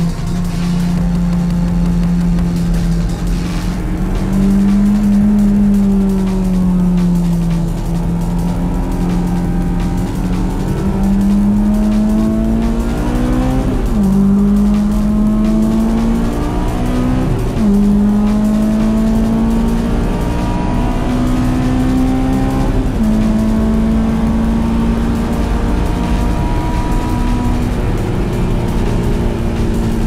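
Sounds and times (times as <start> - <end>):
car engine accelerating hard: 0.0 - 30.0.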